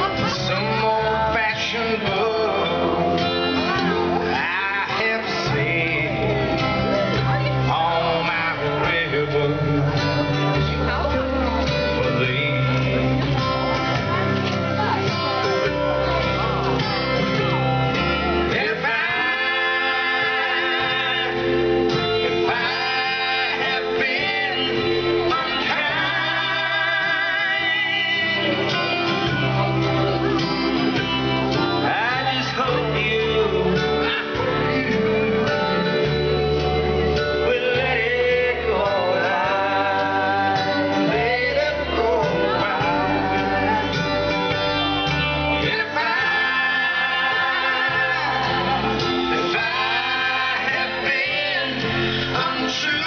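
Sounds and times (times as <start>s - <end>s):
country song over loudspeaker: 0.0s - 53.0s.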